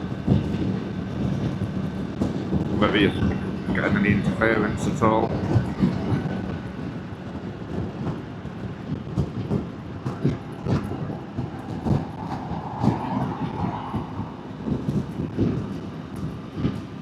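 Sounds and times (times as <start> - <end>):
road noise: 0.0 - 17.0
wind buffeting: 0.0 - 17.0.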